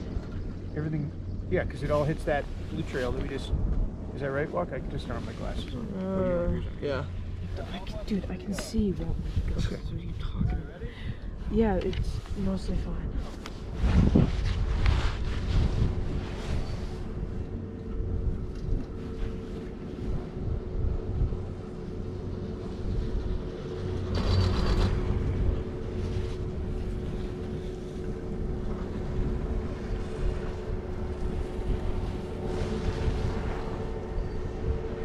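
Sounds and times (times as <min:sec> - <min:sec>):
chairlift rumble and hum: 0:00.0 - 0:35.0
wind on microphone: 0:00.0 - 0:35.0.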